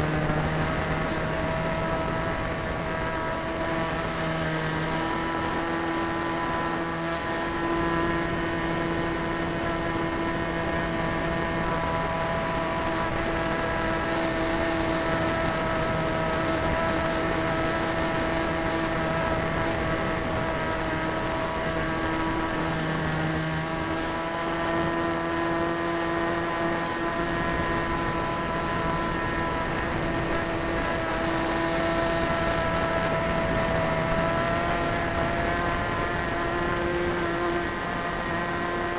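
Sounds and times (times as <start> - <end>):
model plane engine running: 0.0 - 38.9
wind rush over microphone: 0.0 - 38.9.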